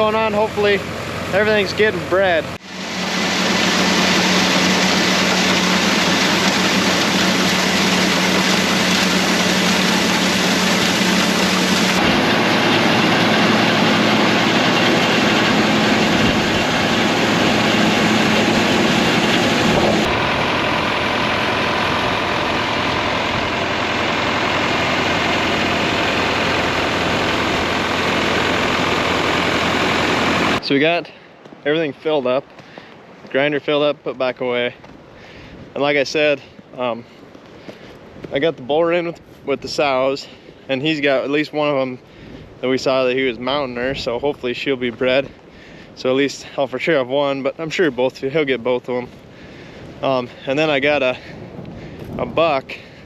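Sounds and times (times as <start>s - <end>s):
tractor engine driving feed grinder: 0.0s - 32.8s, 35.8s - 53.0s.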